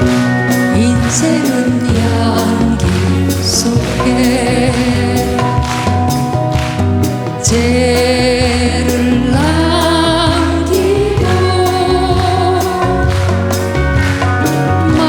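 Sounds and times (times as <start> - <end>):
person singing with vibrato: 0.0 - 6.6, 7.2 - 15.0
live band playing: 0.0 - 15.0.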